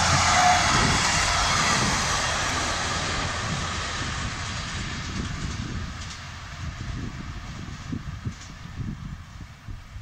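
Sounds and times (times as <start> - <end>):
diesel locomotive engine: 0.0 - 10.0
train coaches running noise: 0.0 - 10.0.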